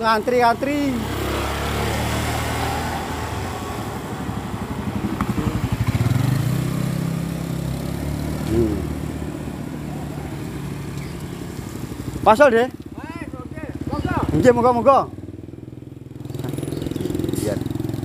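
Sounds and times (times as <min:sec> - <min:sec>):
motorcycles and scooters passing: 0:00.0 - 0:18.0.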